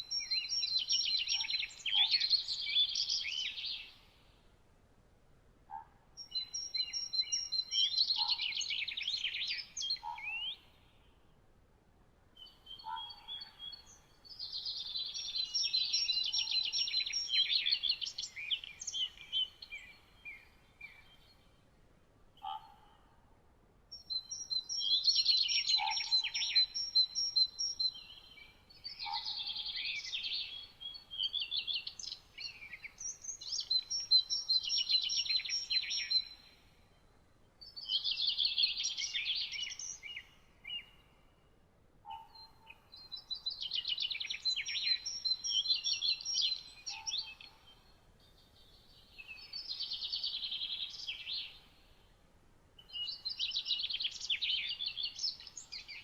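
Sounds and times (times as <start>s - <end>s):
songbird singing trills and whistles: 0.0s - 4.2s, 5.7s - 11.1s, 12.4s - 21.4s, 23.9s - 41.2s, 42.0s - 52.0s, 52.8s - 56.0s.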